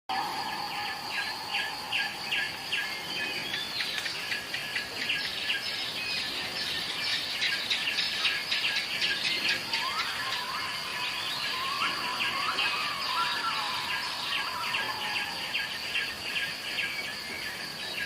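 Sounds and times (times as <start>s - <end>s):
birds chirping: 0.1s - 18.0s
high insect drone: 0.1s - 18.0s.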